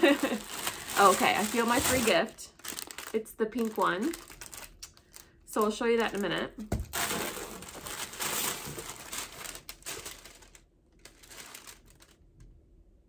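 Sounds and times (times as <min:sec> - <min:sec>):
packaging wrap rustling: 0:00.0 - 0:12.3.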